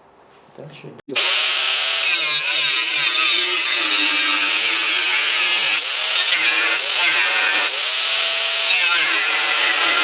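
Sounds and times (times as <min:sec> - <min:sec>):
angle grinder cutting steel: 0:01.1 - 0:10.0.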